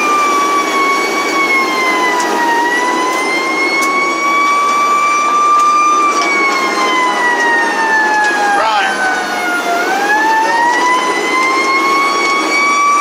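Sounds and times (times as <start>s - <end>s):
engine and road noise: 0.0s - 13.0s
fire engine siren wailing: 0.0s - 13.0s.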